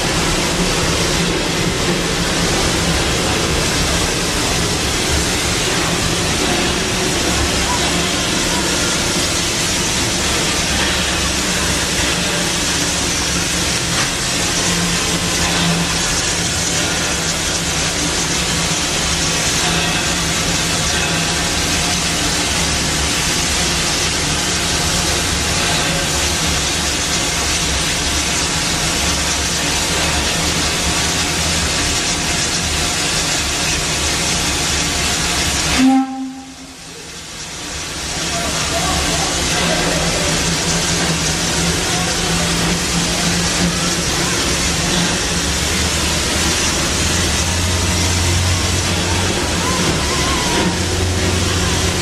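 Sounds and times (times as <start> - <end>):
steam hissing: 0.0 - 52.0.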